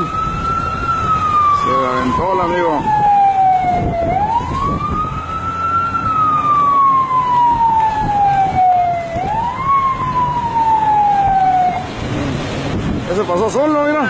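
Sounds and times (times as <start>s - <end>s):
emergency siren wailing: 0.0s - 14.0s
low traffic rumble: 0.0s - 14.0s.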